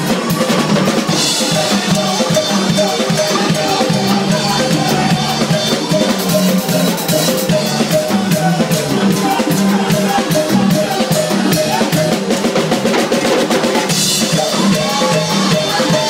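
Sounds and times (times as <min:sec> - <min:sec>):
drum kit beat: 0:00.0 - 0:16.0
live band playing: 0:00.0 - 0:16.0.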